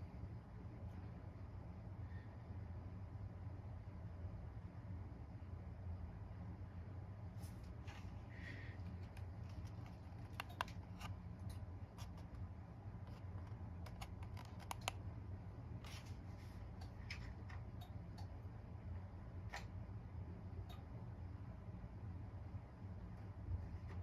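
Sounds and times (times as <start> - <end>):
ceiling fan humming: 0.0 - 24.0.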